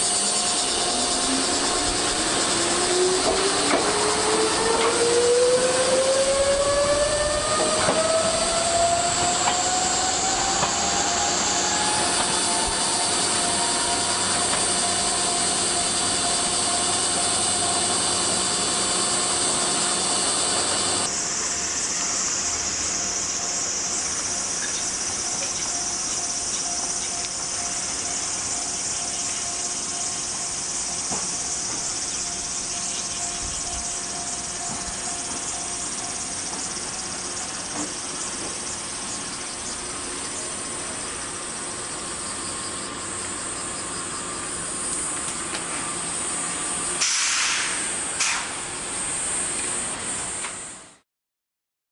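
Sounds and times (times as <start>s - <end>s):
cicadas droning: 0.0s - 51.0s
distant train pulling in: 0.0s - 51.0s
electric train humming: 0.0s - 51.0s.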